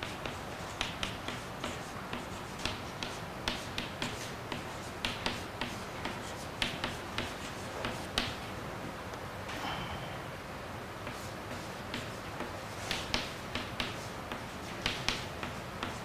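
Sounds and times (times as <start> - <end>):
chalk tapping on chalkboard: 0.0 - 8.4, 11.0 - 16.0.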